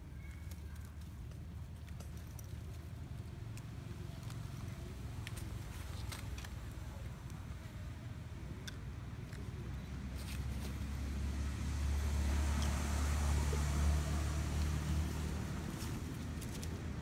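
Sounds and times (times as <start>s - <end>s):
passing motor vehicle rumble: 0.0s - 17.0s.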